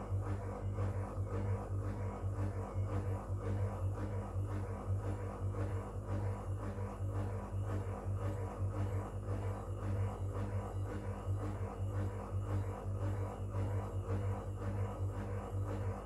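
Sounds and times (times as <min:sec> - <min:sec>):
washing machine pulsing hum: 0:00.0 - 0:16.0.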